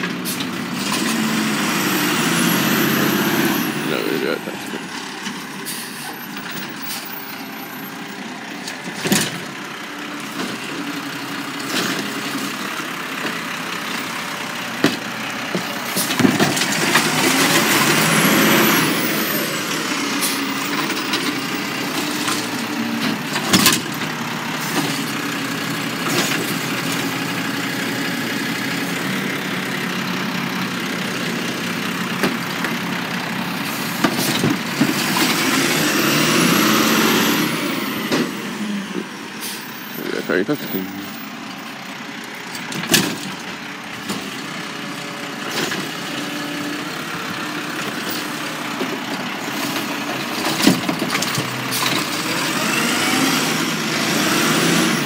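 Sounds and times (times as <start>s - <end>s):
garbage truck engine hum: 0.0s - 55.0s.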